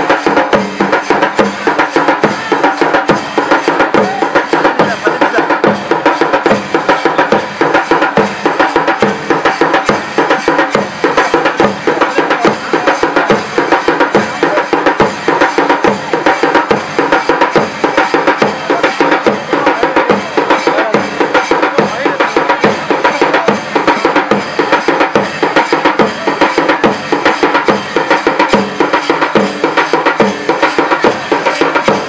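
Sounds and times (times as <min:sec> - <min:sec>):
folk dance music with fast drumming: 0:00.0 - 0:32.0.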